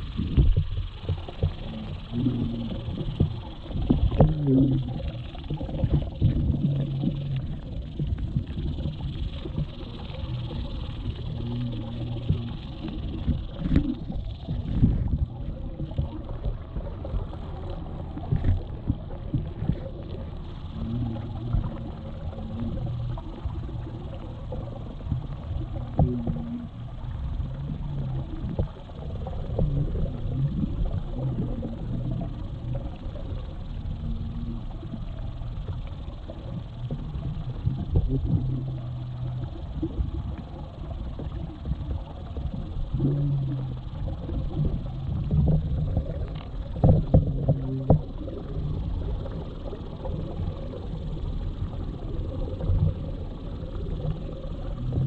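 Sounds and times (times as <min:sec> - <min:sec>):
muffled underwater rumble: 0:00.0 - 0:55.0
short low hums: 0:00.0 - 0:55.0.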